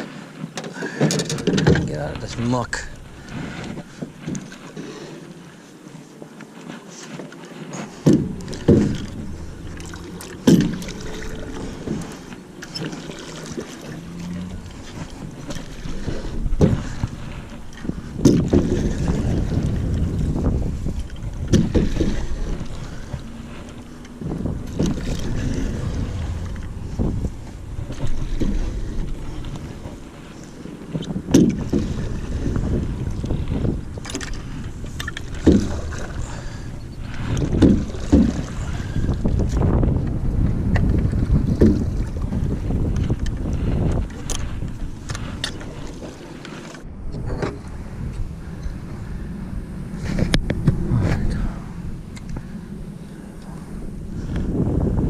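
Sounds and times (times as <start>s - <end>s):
wind buffeting microphone: 1.2s - 5.6s, 7.9s - 55.0s.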